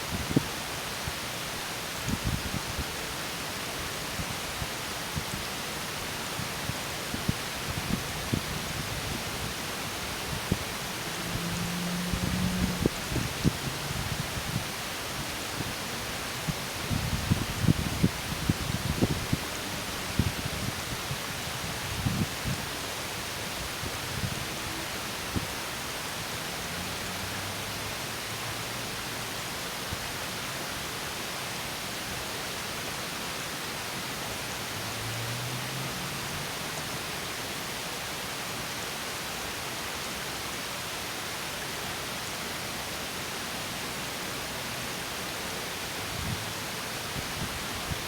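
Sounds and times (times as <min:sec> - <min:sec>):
small waterfall splashing: 0:00.0 - 0:48.0.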